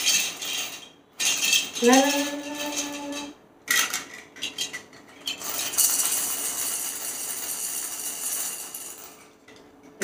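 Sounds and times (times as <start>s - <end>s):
plastic baby rattle shaking: 0.0s - 9.0s.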